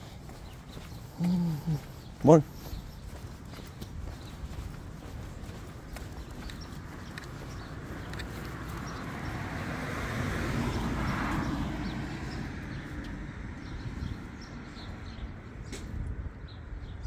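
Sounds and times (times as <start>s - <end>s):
vehicle passing: 0.0s - 15.7s.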